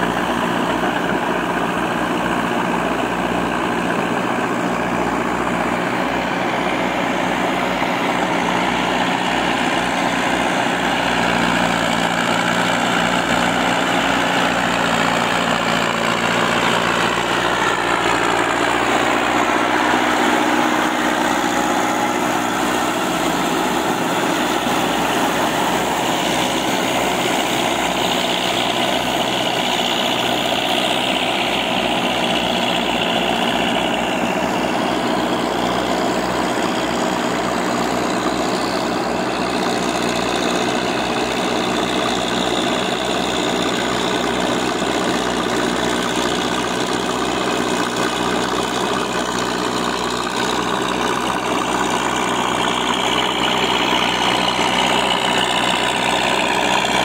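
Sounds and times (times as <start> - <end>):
diesel tractors running: 0.0 - 57.0
tractor passing by: 0.0 - 57.0.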